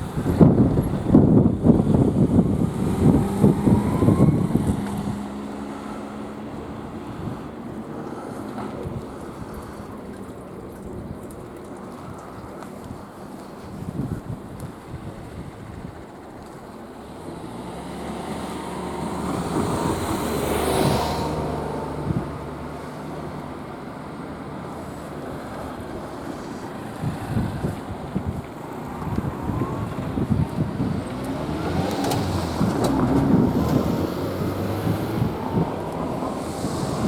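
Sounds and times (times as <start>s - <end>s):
diesel railcar engine hum: 0.0s - 37.0s
wind buffeting microphone: 0.0s - 37.0s.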